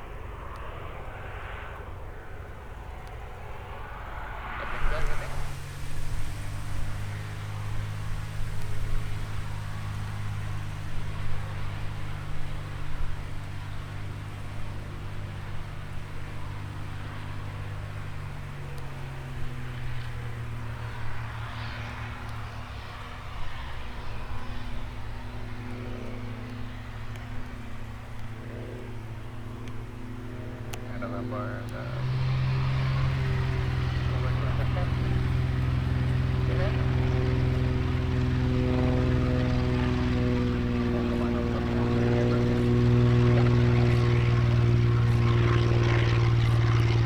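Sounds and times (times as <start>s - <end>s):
light aircraft engine running: 0.0s - 47.0s.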